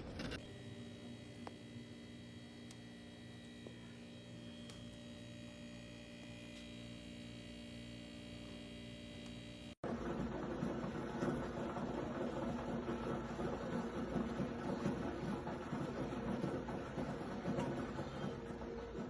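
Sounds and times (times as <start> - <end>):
water cooler electrical hum: 0.0 - 19.0.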